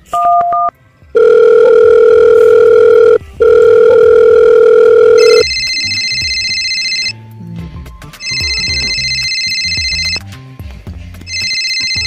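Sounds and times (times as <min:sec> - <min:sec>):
electronic phone ringtone: 0:00.2 - 0:07.2, 0:08.2 - 0:10.2, 0:11.3 - 0:12.0
low phone ring tones: 0:00.2 - 0:07.2, 0:08.2 - 0:10.2, 0:11.3 - 0:12.0.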